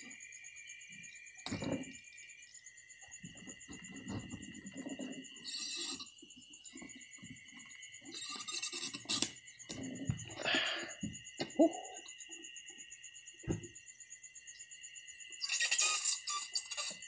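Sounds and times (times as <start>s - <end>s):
night insects chirring: 0.0s - 17.0s.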